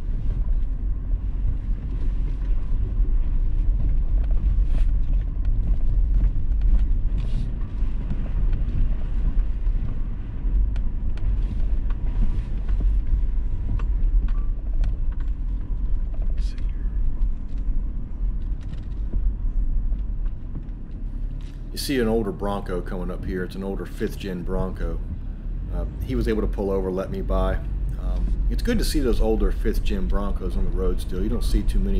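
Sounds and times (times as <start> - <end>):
engine and tyres rumbling: 0.0 - 31.9
gravel ticks and rattles: 0.0 - 31.9.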